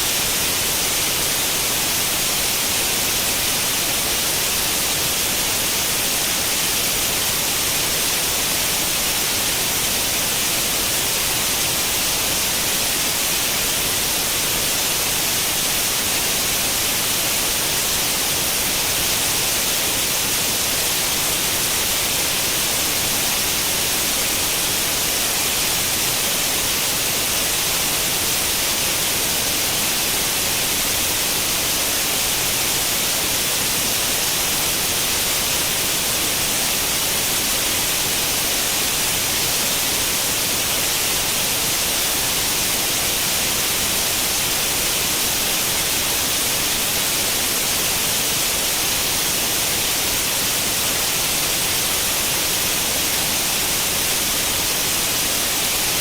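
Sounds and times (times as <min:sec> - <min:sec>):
white noise static hiss: 0:00.0 - 0:56.0.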